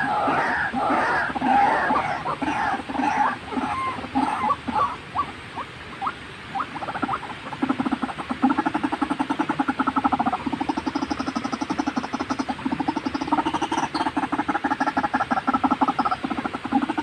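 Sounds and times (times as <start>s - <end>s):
waterhen croaking calls: 0.0s - 17.0s.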